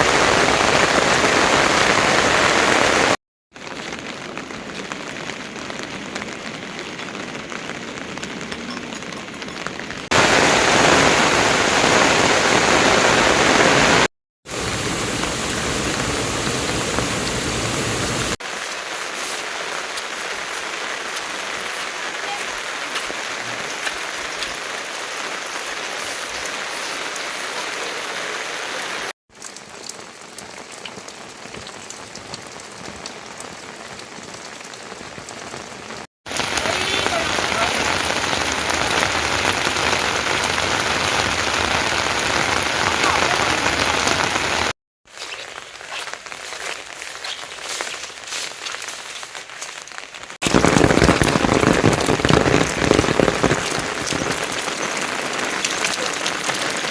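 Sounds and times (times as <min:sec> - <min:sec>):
rain falling: 0:00.0 - 0:56.9.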